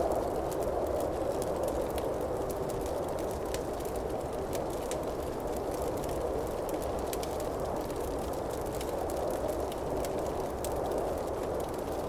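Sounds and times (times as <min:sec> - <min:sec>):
campfire rushing: 0:00.0 - 0:12.0
fire crackles and pops: 0:00.0 - 0:12.0.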